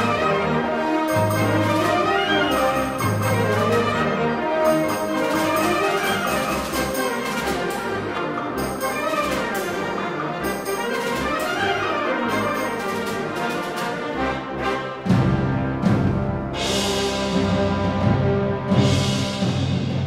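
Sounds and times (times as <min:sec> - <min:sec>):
trumpets and trombones: 0:00.0 - 0:20.0
wind orchestra playing: 0:00.0 - 0:20.0.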